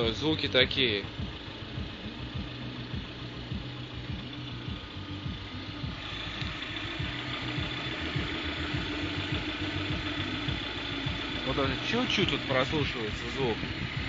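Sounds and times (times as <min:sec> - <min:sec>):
car engine idling with knock: 0:00.0 - 0:14.0.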